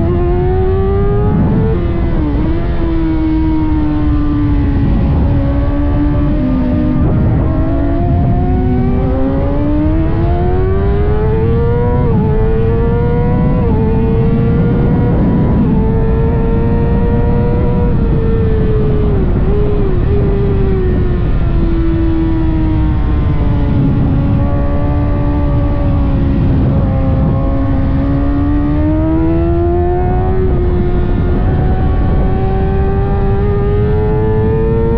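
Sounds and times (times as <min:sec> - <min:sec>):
motorcycle engine racing: 0:00.0 - 0:34.9.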